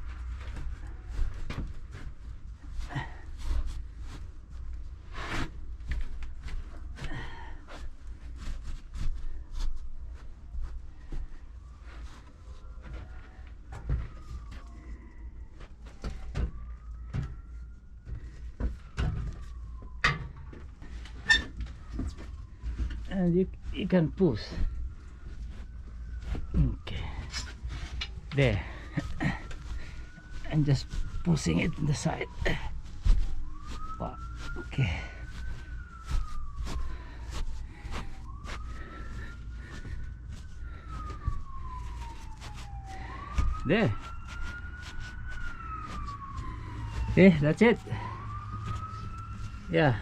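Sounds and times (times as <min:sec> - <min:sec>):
emergency vehicle siren wailing: 0:00.0 - 0:50.0
insulation bumps and rustles: 0:00.0 - 0:50.0.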